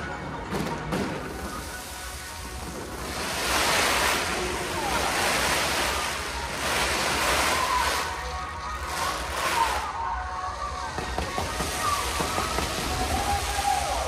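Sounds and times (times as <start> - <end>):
fireworks crackling and hissing: 0.6 - 14.0.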